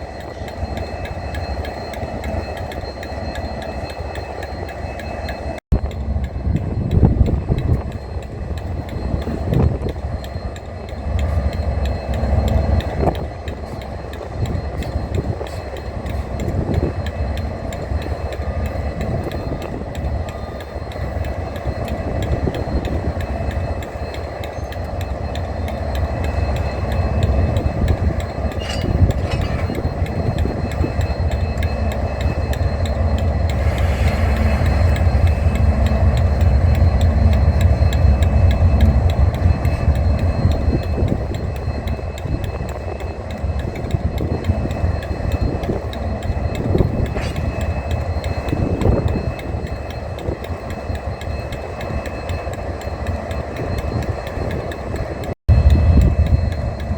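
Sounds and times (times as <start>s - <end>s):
locomotive engine rumbling: 0.0s - 56.9s.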